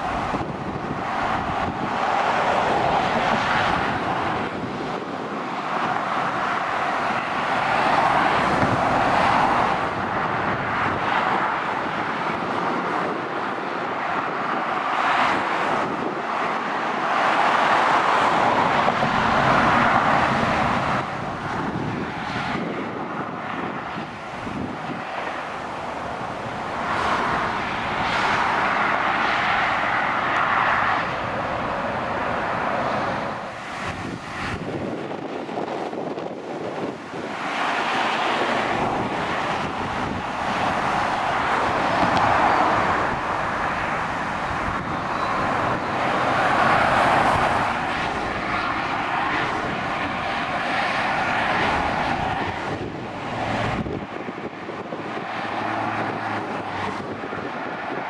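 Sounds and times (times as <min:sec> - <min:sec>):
motorway traffic passing: 0:00.0 - 0:58.0.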